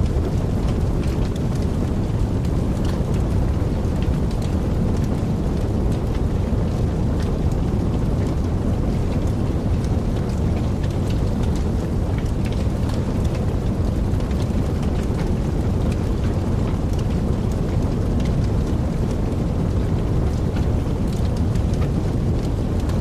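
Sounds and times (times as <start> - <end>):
fire flames rumbling: 0.0 - 23.0
wood fire crackling and popping: 0.0 - 23.0.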